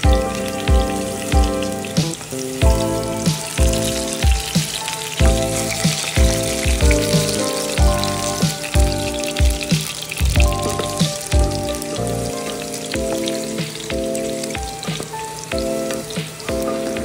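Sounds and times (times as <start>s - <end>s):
background music with beat: 0.0s - 17.0s
eggplant sizzling in oil: 0.0s - 17.0s.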